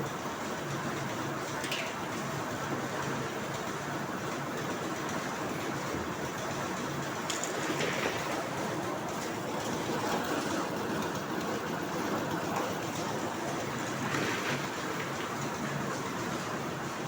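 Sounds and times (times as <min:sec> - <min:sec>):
concrete mixer running: 0:00.0 - 0:17.0.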